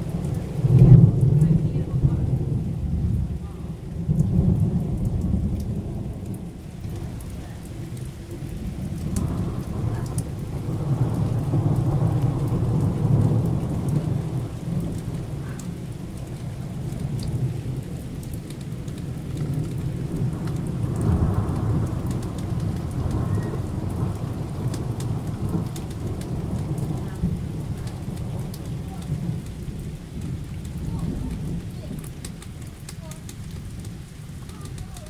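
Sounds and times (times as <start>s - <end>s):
rain falling: 0.0s - 35.0s
rolling thunder: 0.0s - 35.0s.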